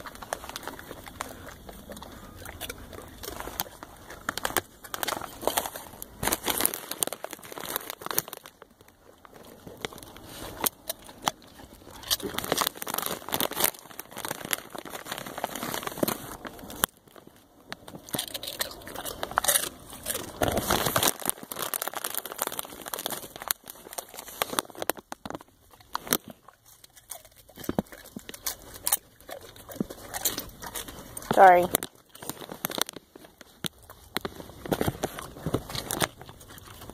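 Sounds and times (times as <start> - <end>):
chip bag crinkling: 0.0 - 36.9.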